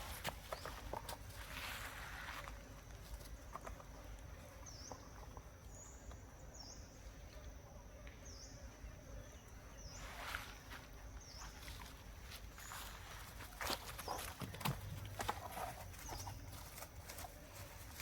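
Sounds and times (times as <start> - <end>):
rustle: 0.0 - 6.6, 9.8 - 18.0.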